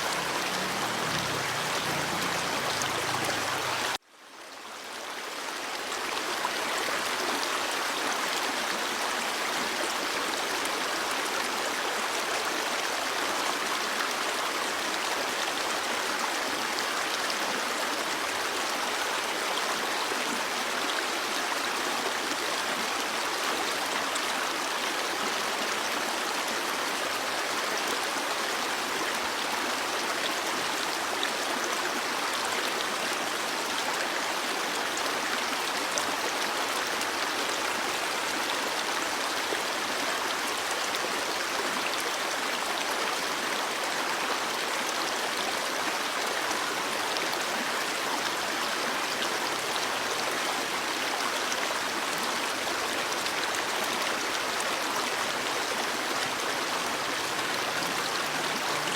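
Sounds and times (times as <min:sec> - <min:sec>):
stream water rushing: 0:00.0 - 0:04.0, 0:04.8 - 0:58.9.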